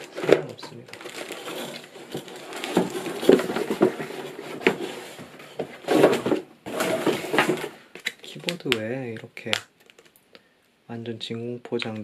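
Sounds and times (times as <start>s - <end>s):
packaging handling knocks and rustles: 0.0s - 10.2s.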